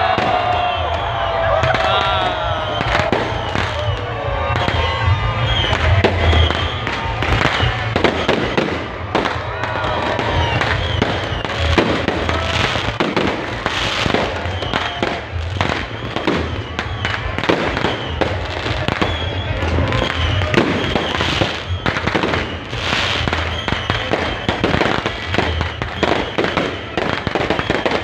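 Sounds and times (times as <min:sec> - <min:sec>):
fireworks bangs: 0:00.0 - 0:28.0
music: 0:00.0 - 0:28.0.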